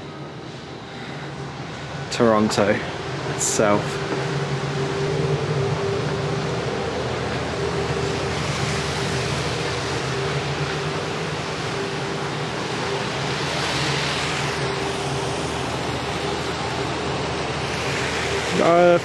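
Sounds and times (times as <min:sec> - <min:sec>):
low hum: 0:00.0 - 0:19.0
steady rushing noise: 0:00.0 - 0:19.0.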